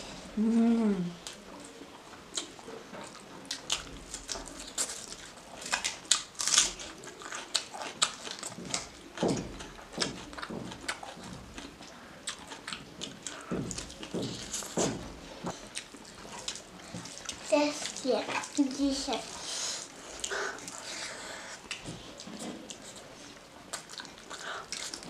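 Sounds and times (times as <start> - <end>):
chewing and lip smacking: 1.2 - 25.0.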